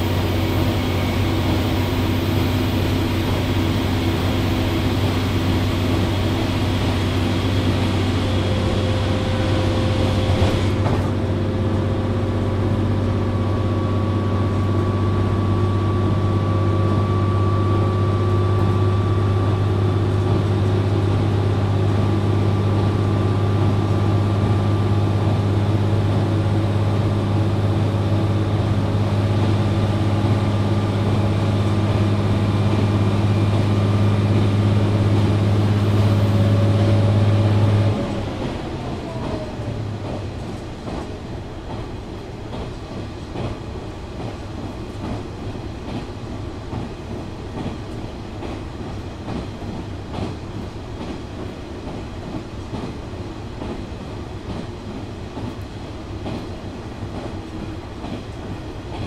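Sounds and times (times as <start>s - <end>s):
railcar diesel engine droning: 0.0s - 59.0s.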